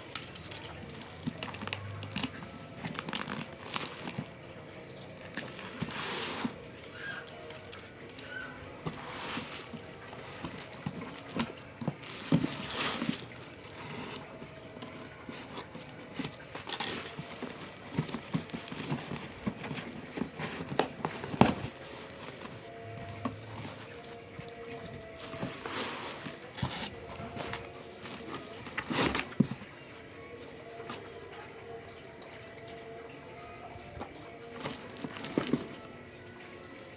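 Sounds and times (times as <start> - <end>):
packaging rustling: 0.0 - 29.7, 34.4 - 35.9.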